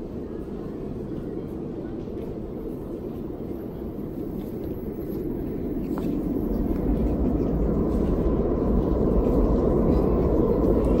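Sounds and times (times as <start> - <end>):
light-rail train rumbling in tunnel: 0.0 - 11.0.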